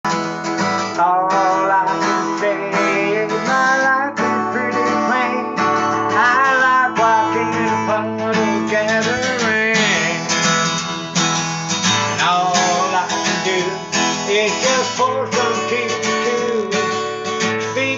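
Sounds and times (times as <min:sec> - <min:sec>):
acoustic guitar bluesy tune: 0:00.0 - 0:17.9.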